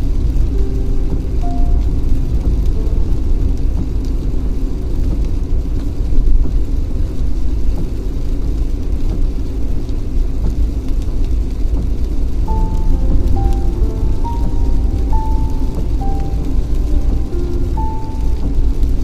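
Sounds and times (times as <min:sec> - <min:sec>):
car road and engine rumble: 0:00.0 - 0:19.0
raindrops ticking: 0:00.0 - 0:19.0.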